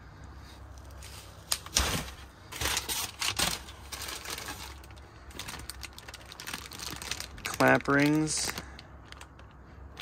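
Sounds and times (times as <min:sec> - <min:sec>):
paper and plastic crinkling: 0:00.8 - 0:10.0.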